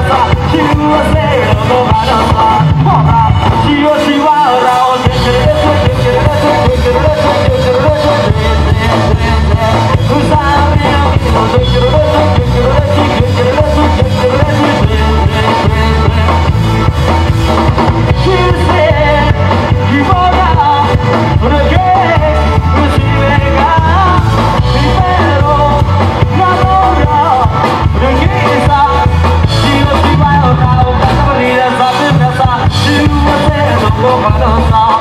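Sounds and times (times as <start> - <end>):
heavy bass beat: 0.0 - 35.0.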